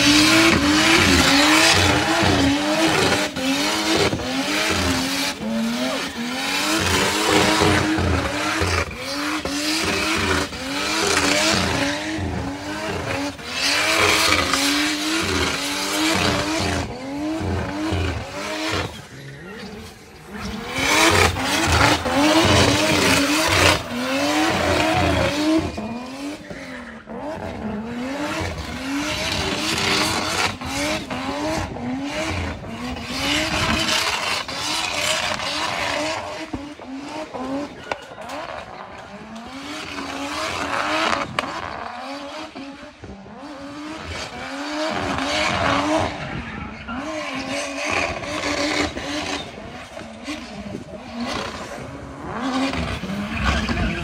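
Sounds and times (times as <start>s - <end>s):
car engine revving: 0.0s - 54.0s
tyres squealing and skidding: 0.0s - 54.0s.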